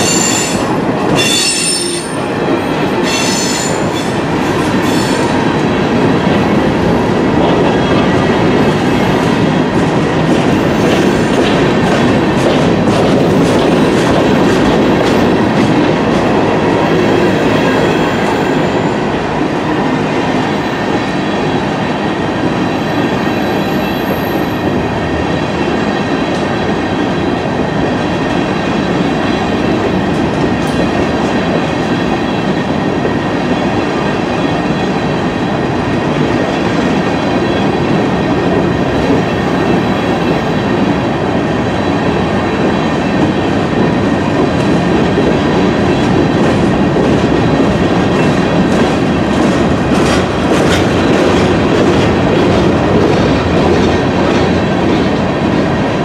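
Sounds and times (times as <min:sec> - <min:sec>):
clickety-clack over rail joints: 0:00.0 - 0:18.7, 0:22.2 - 0:56.0
train wheels rumbling on rails: 0:00.0 - 0:56.0.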